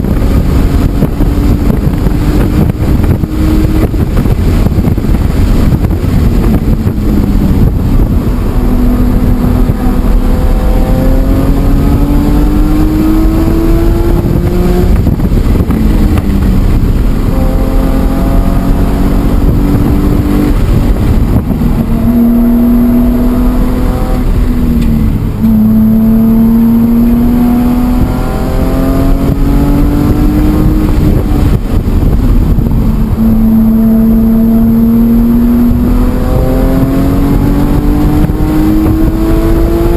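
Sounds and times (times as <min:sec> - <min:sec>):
car engine revving through gears: 0:00.0 - 0:39.9
road and wind noise: 0:00.0 - 0:39.9.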